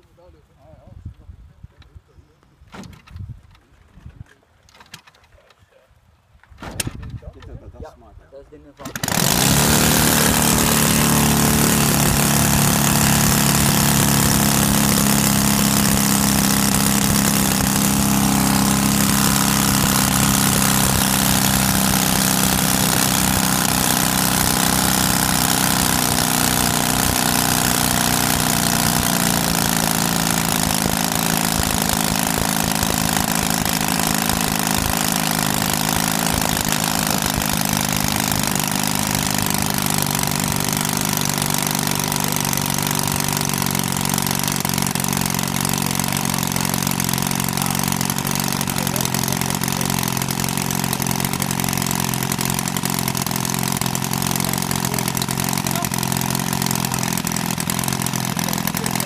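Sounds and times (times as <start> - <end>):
model aircraft engine idling: 8.8 - 59.0.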